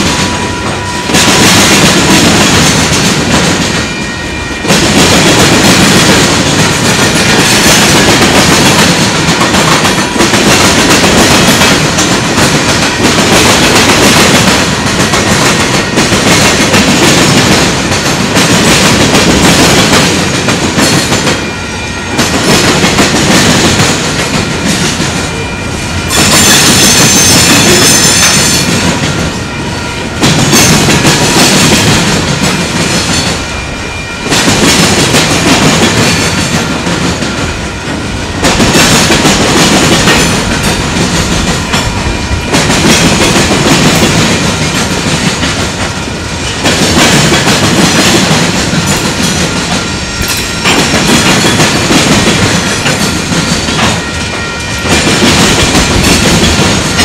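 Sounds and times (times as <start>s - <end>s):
freight train cars rolling past: 0.0s - 57.0s
wheels clattering over rail crossings: 0.0s - 57.0s.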